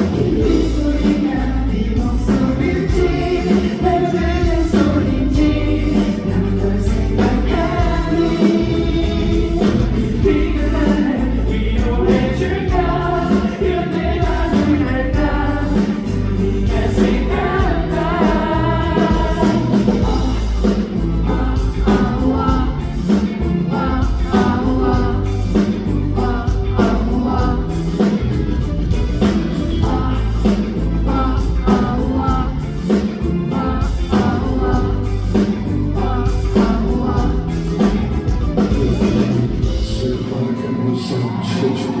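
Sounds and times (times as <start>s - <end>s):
pop song with vocals: 0.0s - 42.0s.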